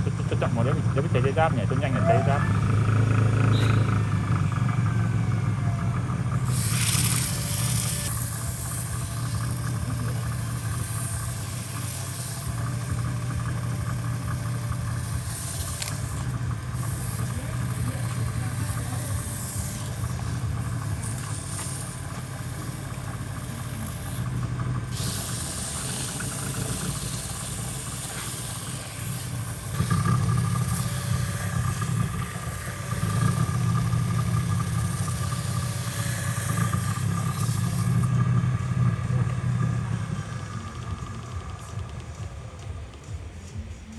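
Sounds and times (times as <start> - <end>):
machine motor running: 0.0 - 43.7.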